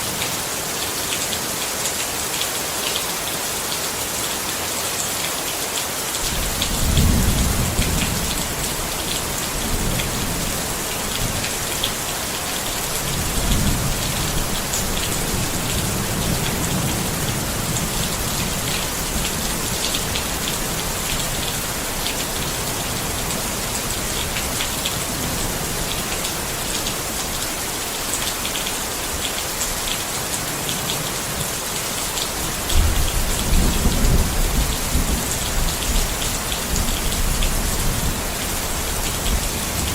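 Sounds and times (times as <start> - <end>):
rain pattering on a tent: 0.0 - 39.9.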